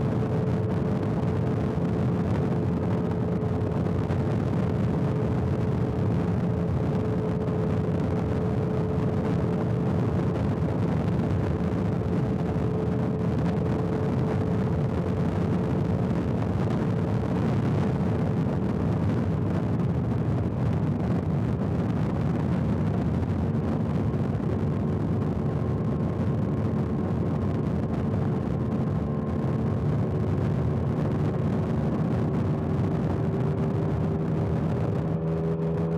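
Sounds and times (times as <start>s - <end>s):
motorcycle engine drone: 0.0s - 35.9s
road and wind noise: 0.0s - 35.9s.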